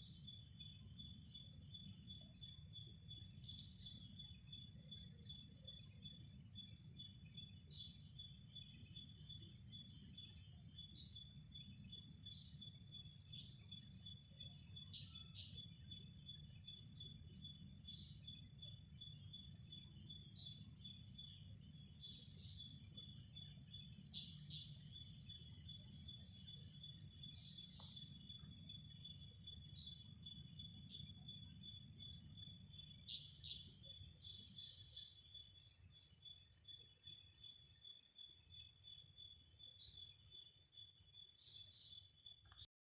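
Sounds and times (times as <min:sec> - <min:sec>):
insects droning: 0:00.0 - 0:42.7
pulsing insect trill: 0:00.0 - 0:42.7
short insect chirps: 0:00.0 - 0:42.7.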